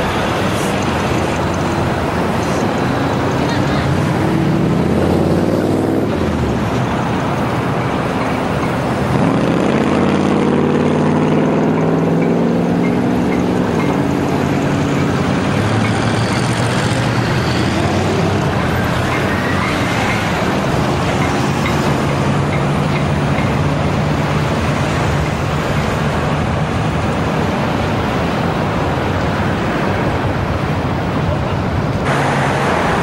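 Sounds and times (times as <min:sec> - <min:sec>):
vehicle engine accelerating: 0:00.0 - 0:30.0
road noise: 0:00.0 - 0:33.0.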